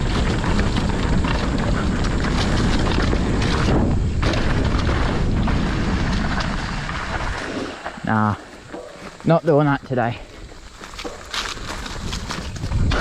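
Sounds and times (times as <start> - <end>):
bike rattling over rocks: 0.0 - 13.0
bike tyres rumbling over ground: 0.0 - 13.0.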